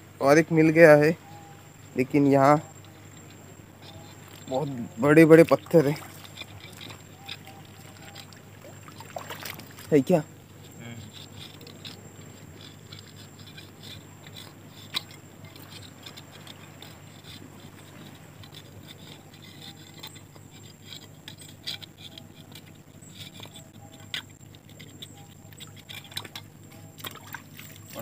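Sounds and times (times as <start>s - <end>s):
metal hook tapping and scraping rock: 1.2s - 28.0s.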